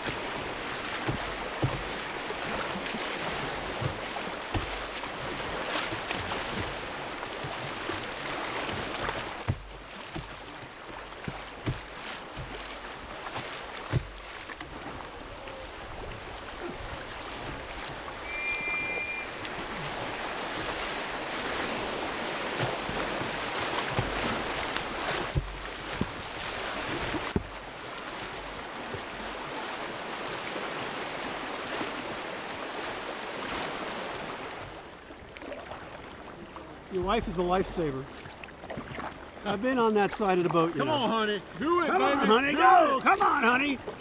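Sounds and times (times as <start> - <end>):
kayak knocks and splashes: 0.0 - 34.8, 35.4 - 44.0
rushing whitewater: 0.0 - 44.0.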